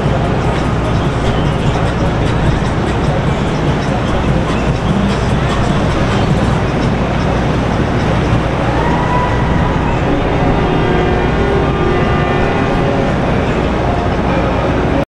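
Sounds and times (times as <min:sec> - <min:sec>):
faint pitched tones: 0:00.0 - 0:15.0
motorboat engines rumbling: 0:00.0 - 0:15.0.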